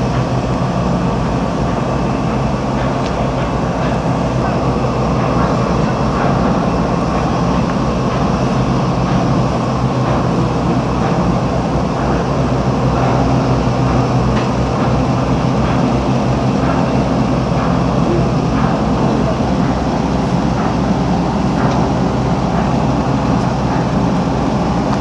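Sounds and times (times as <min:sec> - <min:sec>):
low mechanical rumble: 0:00.0 - 0:25.0.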